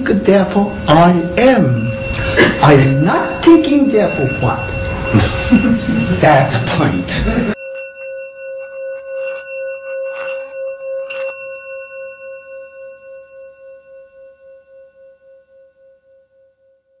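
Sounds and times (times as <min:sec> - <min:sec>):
metal bell ringing: 0:00.0 - 0:16.0.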